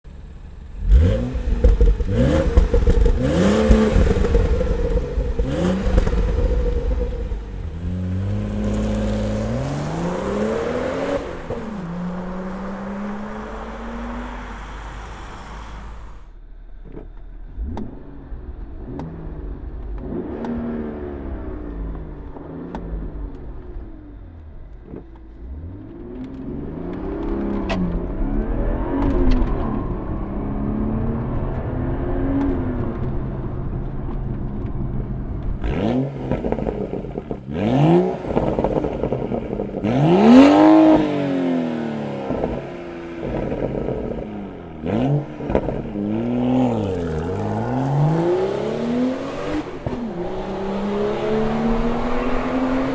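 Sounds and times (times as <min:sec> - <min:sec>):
car engine revving: 0:00.1 - 0:52.9.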